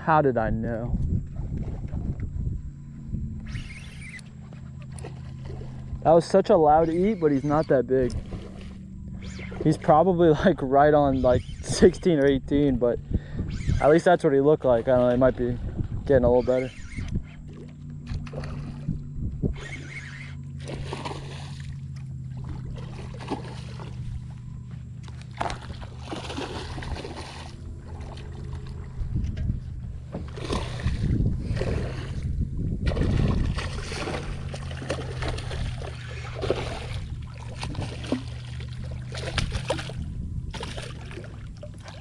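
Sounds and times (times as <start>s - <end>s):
steady low hum: 0.0s - 42.0s
water splashing around boat: 0.6s - 2.5s, 3.4s - 42.0s.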